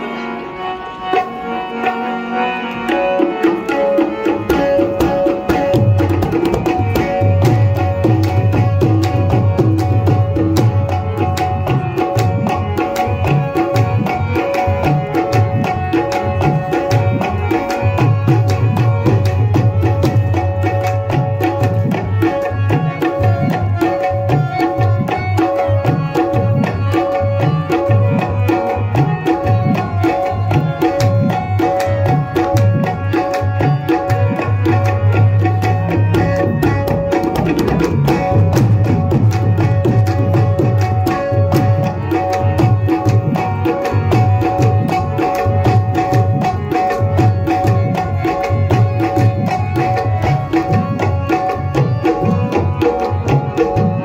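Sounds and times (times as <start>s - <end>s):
sustained harmonium notes: 0.0s - 54.0s
tabla playing fast rhythm: 0.0s - 54.0s.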